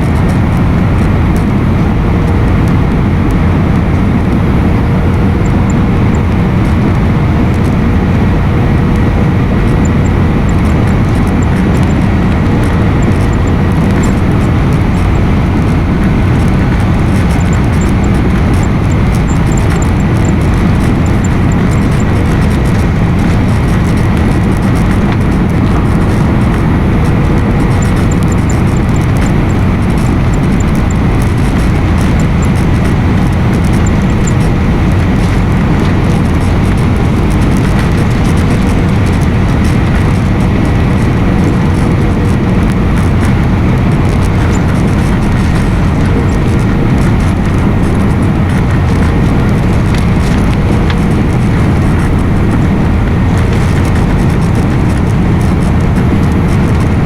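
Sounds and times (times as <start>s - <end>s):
airliner cabin engine noise: 0.0s - 57.0s
faint whining tones: 0.0s - 57.0s.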